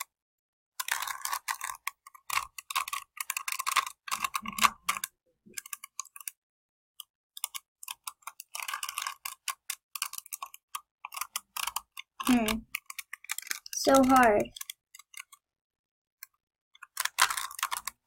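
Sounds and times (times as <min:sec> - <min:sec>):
puzzle cube plastic clicks: 0:00.8 - 0:06.4, 0:07.0 - 0:15.5, 0:16.2 - 0:18.0.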